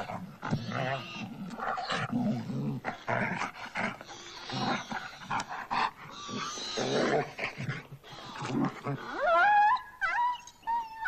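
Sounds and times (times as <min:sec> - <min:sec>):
dog growling and snarling: 0:00.0 - 0:09.2.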